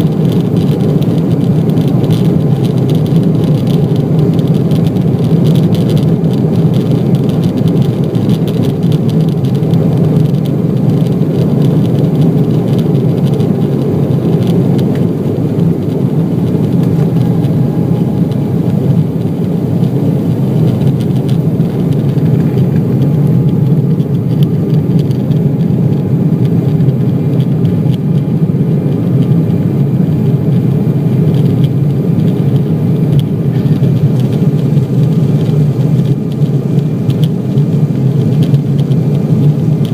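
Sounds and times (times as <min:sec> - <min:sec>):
jet engines roaring at takeoff: 0:00.0 - 0:39.9.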